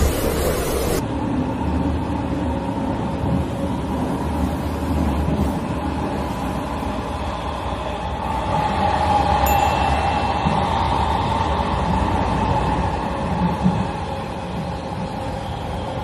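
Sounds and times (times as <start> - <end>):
metro train running: 0.0 - 16.0.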